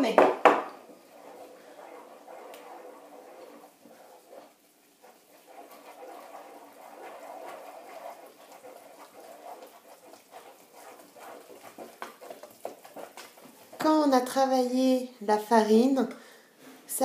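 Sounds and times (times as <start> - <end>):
wooden spoon stirring dough: 0.0 - 17.0.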